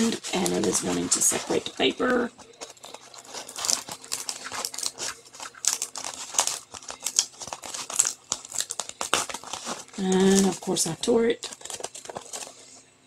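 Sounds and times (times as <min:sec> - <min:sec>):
paper crinkling and crackling: 0:00.0 - 0:12.9.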